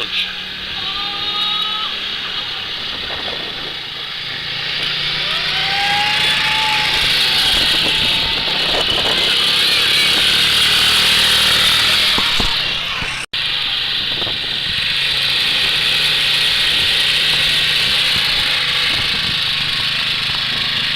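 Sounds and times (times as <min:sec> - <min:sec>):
small engine revving: 0:00.0 - 0:20.9.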